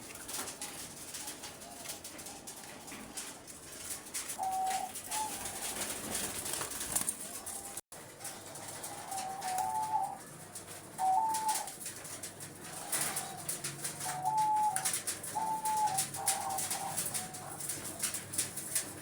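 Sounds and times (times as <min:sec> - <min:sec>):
birds rustling in cages: 0:00.0 - 0:19.0
doves cooing: 0:00.0 - 0:19.0.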